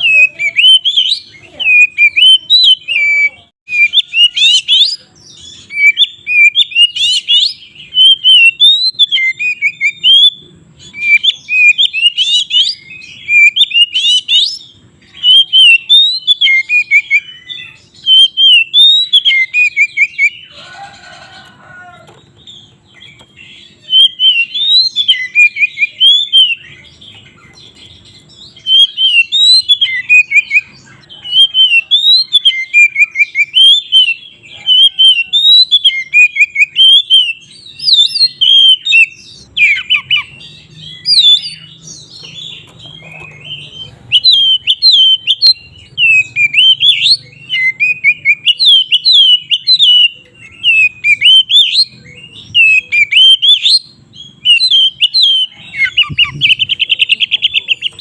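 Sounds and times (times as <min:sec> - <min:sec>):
bird whistling song: 0:00.0 - 0:20.7, 0:22.1 - 0:58.0.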